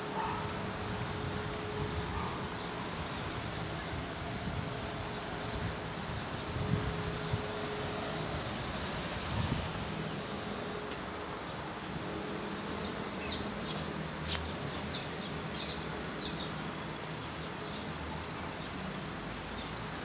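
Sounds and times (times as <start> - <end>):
street background hum and hiss: 0.0 - 20.0.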